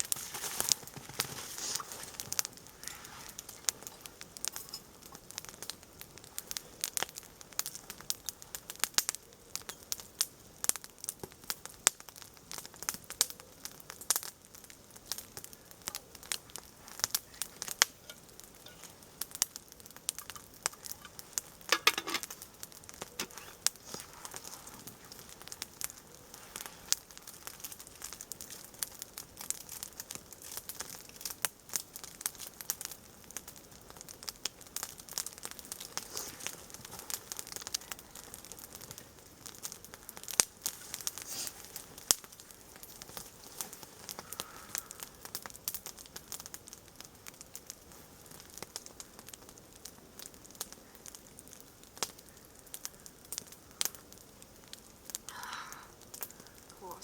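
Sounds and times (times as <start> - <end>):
wood campfire crackling: 0.0 - 57.0.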